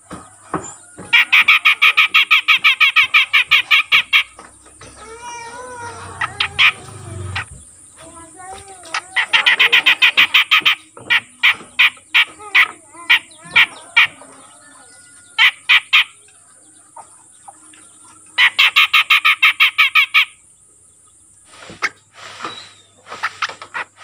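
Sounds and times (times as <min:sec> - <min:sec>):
bird chattering calls: 0:01.0 - 0:24.0.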